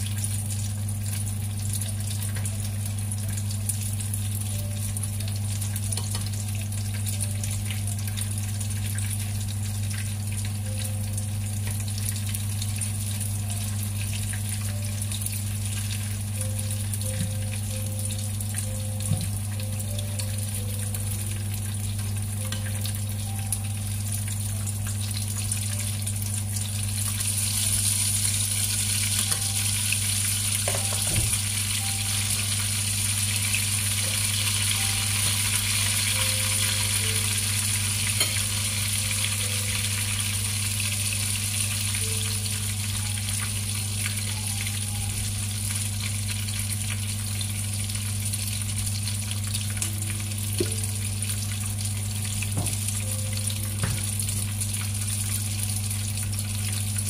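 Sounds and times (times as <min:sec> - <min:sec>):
dumplings sizzling in oil: 0:00.0 - 0:57.0.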